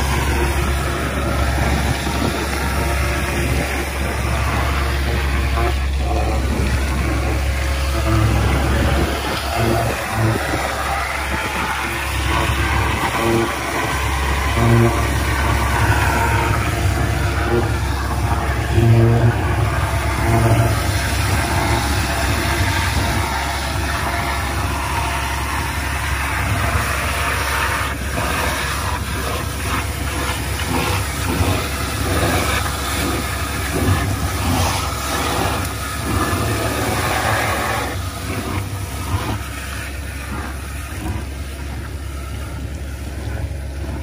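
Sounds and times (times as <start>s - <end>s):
engine and blower rumble: 0.0s - 44.0s
rushing hiss of air and water: 0.0s - 44.0s.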